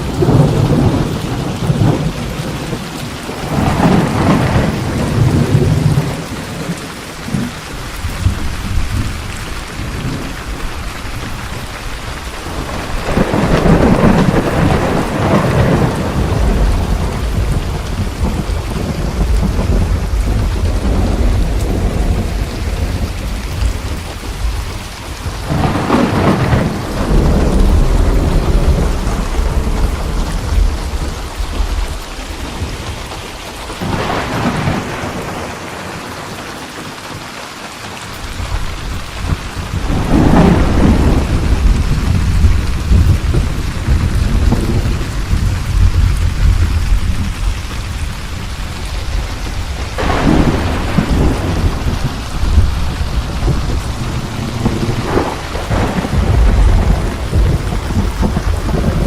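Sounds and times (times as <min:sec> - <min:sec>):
rolling thunder: 0:00.0 - 0:36.1, 0:38.3 - 0:59.0
steady rain falling: 0:00.0 - 0:59.0.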